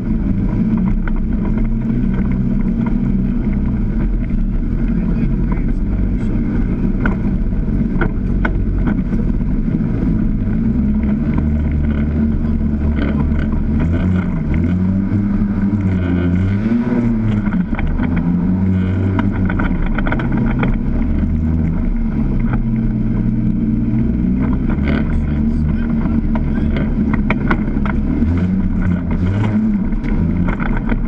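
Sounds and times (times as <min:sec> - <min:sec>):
off-road vehicle engine revving: 0:00.0 - 0:31.0
knocks and clatter: 0:00.5 - 0:15.1, 0:16.6 - 0:31.0.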